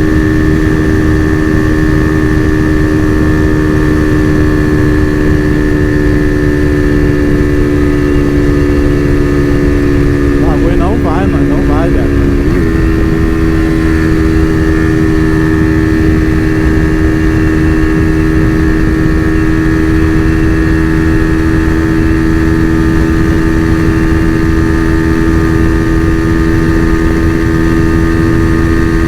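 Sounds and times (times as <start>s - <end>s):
motorcycle engine at high revs: 0.0s - 29.0s.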